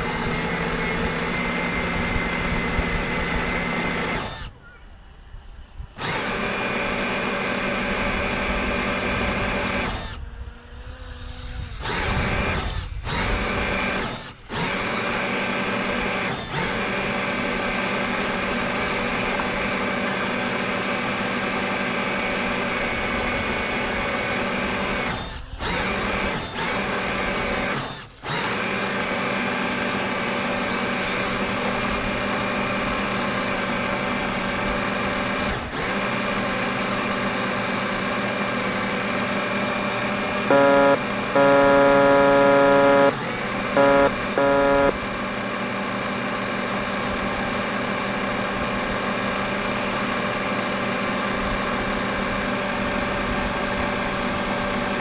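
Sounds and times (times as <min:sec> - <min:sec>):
electric motor whining: 0:00.0 - 0:37.2, 0:38.6 - 0:46.0.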